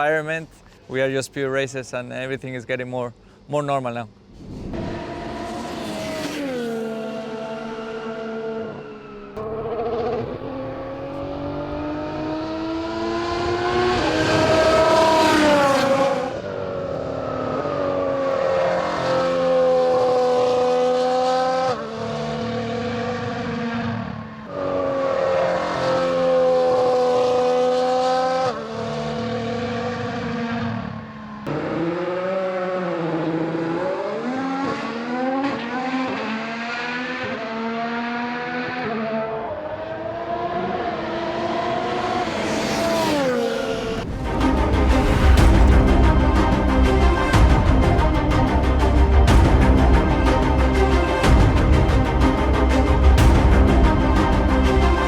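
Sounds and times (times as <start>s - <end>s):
racing car engine passing: 4.2s - 55.0s.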